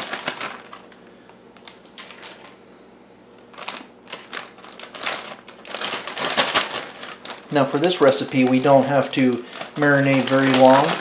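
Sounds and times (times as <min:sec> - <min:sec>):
plastic bag crinkling: 0:00.0 - 0:02.6, 0:03.4 - 0:11.0.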